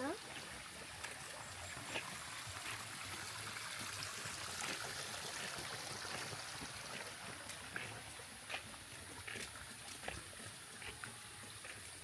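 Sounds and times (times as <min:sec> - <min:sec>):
water running steadily: 0:00.0 - 0:12.0.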